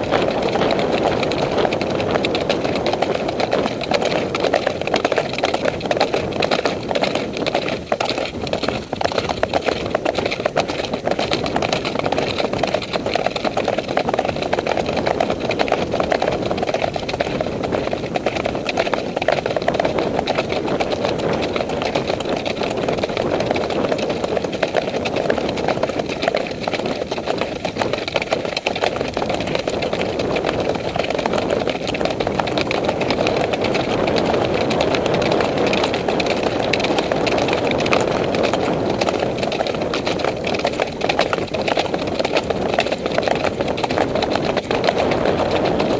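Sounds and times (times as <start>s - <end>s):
hoofbeats on dirt: 0.0s - 45.9s
wind rushing and rumbling: 0.0s - 45.9s.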